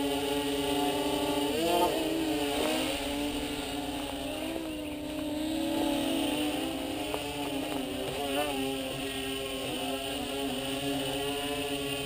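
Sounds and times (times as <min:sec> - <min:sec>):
drone motors and propellers humming: 0:00.0 - 0:12.0.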